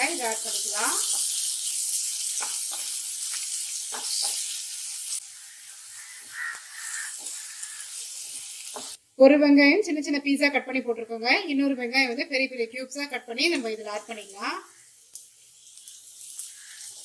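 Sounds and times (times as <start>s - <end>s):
onion sizzling in oil: 0.0s - 9.2s, 10.4s - 17.0s.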